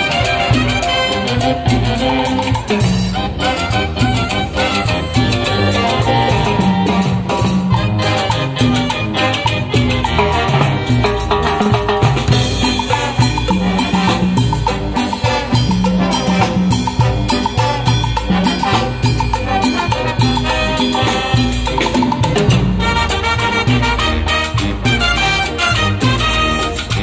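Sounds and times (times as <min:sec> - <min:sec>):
brass band playing: 0:00.0 - 0:27.0
drums and percussion: 0:00.0 - 0:27.0
trumpets saxophones and trombones: 0:00.0 - 0:27.0.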